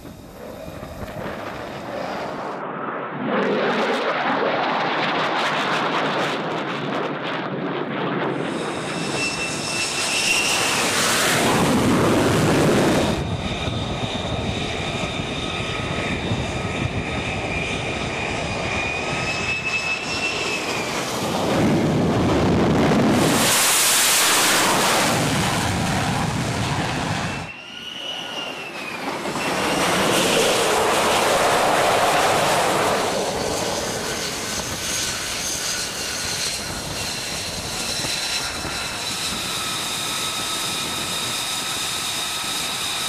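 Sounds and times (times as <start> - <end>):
jet engine noise with turbine whine: 0.0 - 43.0.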